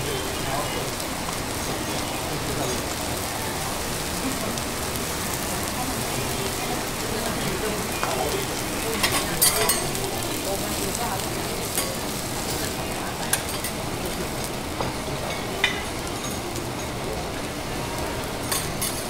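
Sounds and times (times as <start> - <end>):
beef sizzling on griddle: 0.0 - 19.0.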